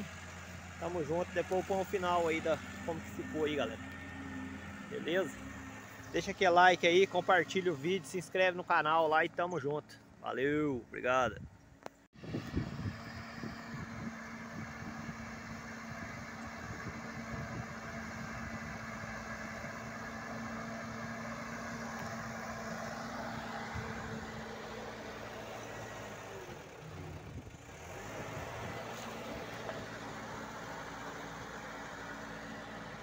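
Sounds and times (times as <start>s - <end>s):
backhoe diesel engine running: 0.0s - 10.2s, 12.3s - 33.0s.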